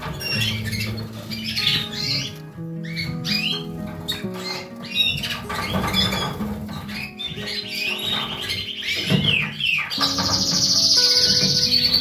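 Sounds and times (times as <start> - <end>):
background music with low notes: 0.0 - 12.0
canary singing trills: 0.0 - 12.0.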